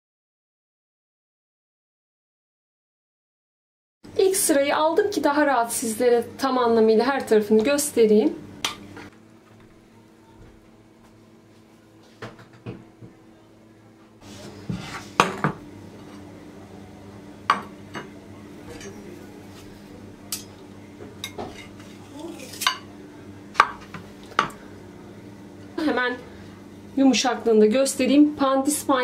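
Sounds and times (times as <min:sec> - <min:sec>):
low steady hum: 0:04.1 - 0:29.0.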